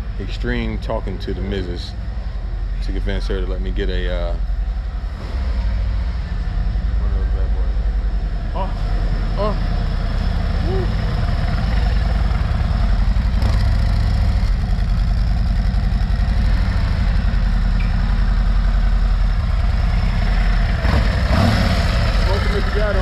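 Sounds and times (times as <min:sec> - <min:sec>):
motorcycle engine idling: 0:00.0 - 0:05.1, 0:05.8 - 0:23.0.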